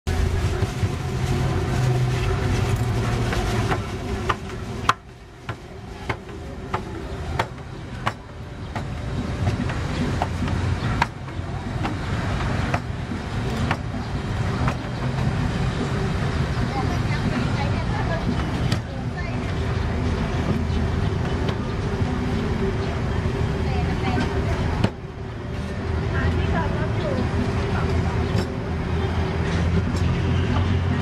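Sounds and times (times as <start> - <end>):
low motor rumble: 0.1 - 31.0.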